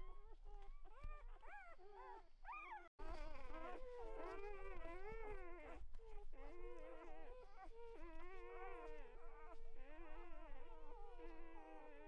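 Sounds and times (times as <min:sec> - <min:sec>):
puppies whimpering and squeaking: 0:00.0 - 0:11.9.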